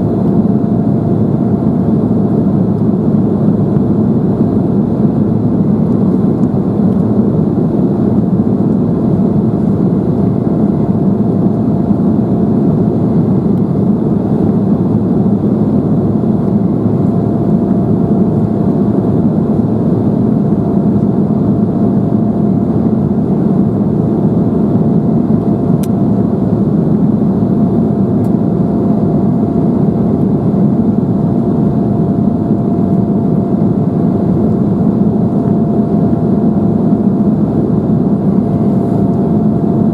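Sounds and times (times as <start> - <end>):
airflow: 0.0 - 39.9
faint steady whine: 0.0 - 39.9
jet engine cabin hum: 0.0 - 39.9.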